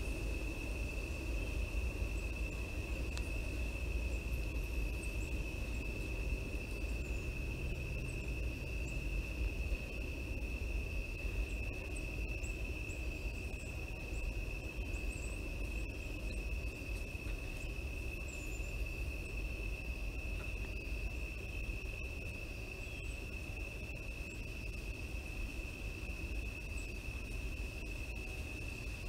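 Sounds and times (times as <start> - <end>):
crickets trilling: 0.0 - 29.0
low steady rumble: 0.0 - 29.0.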